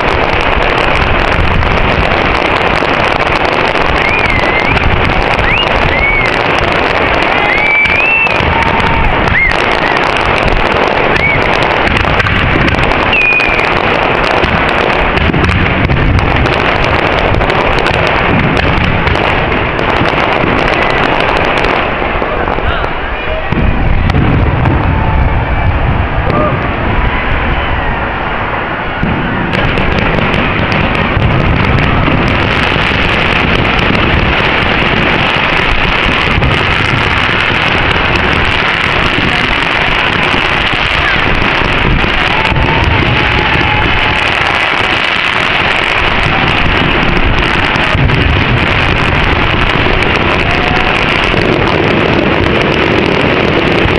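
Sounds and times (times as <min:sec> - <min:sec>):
firework whistles: 0:00.0 - 0:53.9
fireworks crackling and banging: 0:00.0 - 0:53.9.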